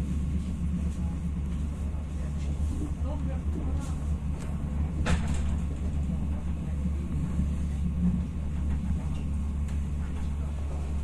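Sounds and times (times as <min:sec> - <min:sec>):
train running rumble and drone: 0:00.0 - 0:11.0.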